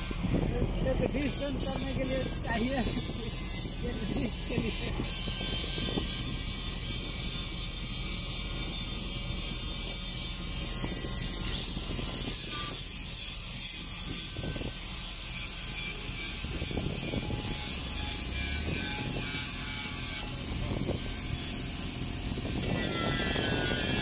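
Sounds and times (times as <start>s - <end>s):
angle grinders grinding steel: 0.0s - 24.0s.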